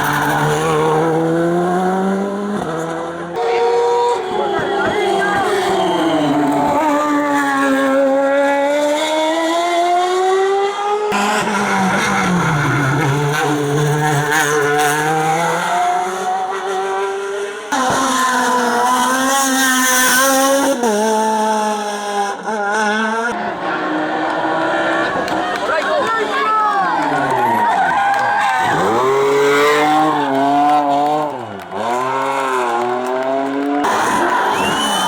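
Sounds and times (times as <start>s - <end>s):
race car engines accelerating: 0.0s - 35.0s.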